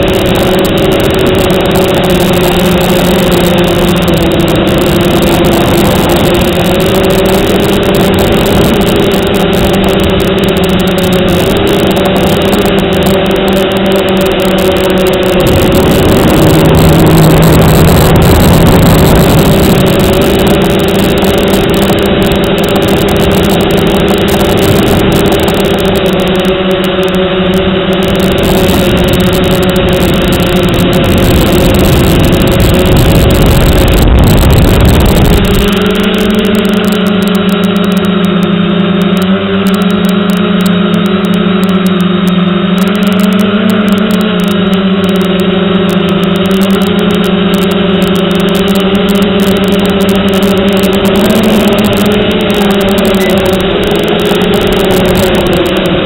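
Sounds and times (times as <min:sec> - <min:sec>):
quadcopter motors humming: 0:00.0 - 0:56.0
wind rumble on microphone: 0:00.0 - 0:56.0.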